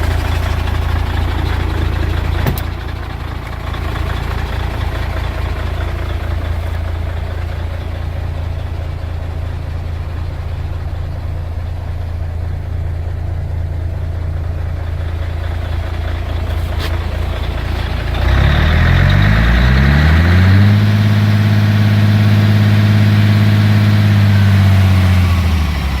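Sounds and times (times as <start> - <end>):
diesel truck engine idling and revving: 0.0 - 26.0.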